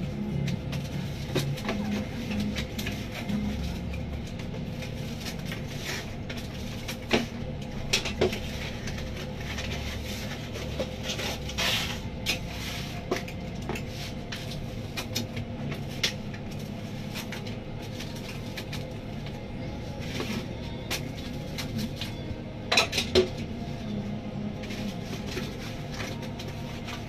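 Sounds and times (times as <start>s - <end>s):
kitchen equipment hum: 0.0s - 27.0s.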